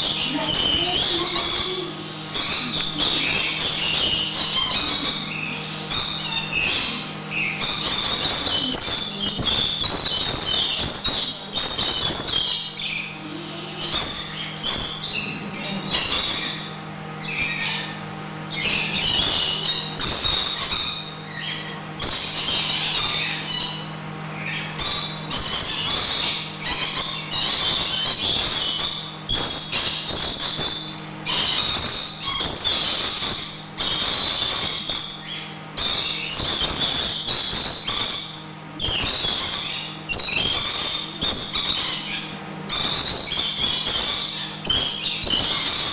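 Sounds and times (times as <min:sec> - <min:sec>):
parrots screeching and chattering: 0:00.0 - 0:45.9
steady low hum: 0:00.0 - 0:45.9.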